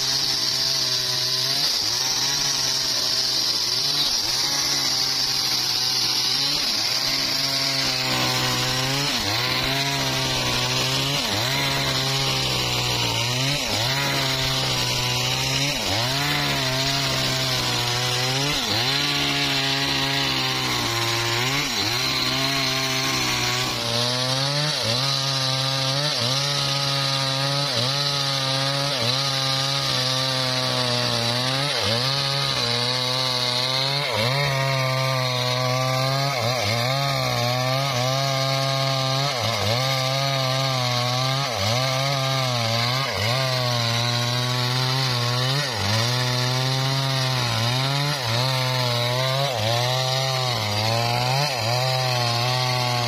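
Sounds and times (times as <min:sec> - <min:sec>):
saw engine running: 0:00.0 - 0:53.0.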